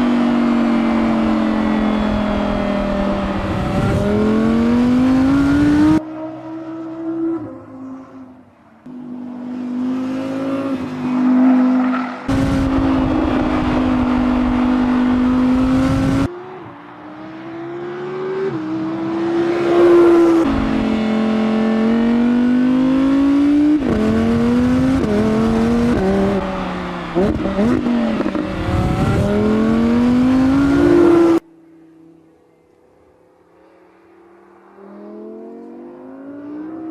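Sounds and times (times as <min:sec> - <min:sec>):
car engine accelerating hard: 0:00.0 - 0:31.4.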